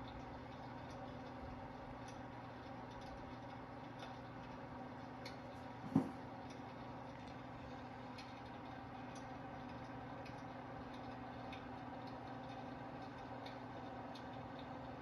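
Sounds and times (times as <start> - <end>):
electric fireplace hum: 0.0 - 15.0
light irregular ticks: 0.0 - 15.0.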